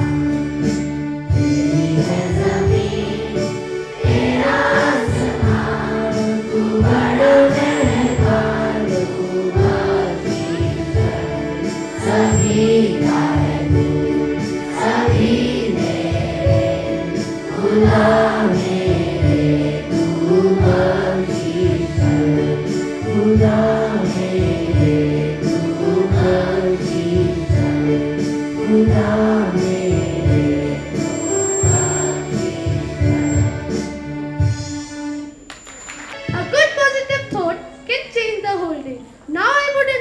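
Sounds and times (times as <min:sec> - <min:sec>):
chorus singing devotional song: 0:00.0 - 0:34.6
instrumental accompaniment with beat: 0:00.0 - 0:37.4.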